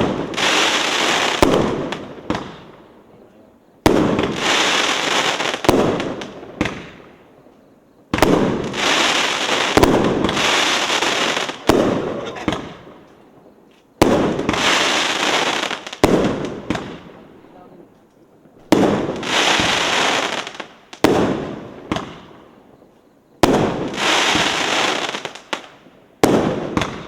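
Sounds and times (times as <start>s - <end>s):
firework bangs: 0.0s - 2.8s, 3.8s - 7.2s, 8.1s - 17.7s, 18.6s - 22.8s, 23.4s - 27.0s
firework crackling hiss: 0.0s - 2.8s, 3.8s - 7.3s, 8.0s - 17.7s, 18.5s - 22.7s, 23.4s - 27.0s.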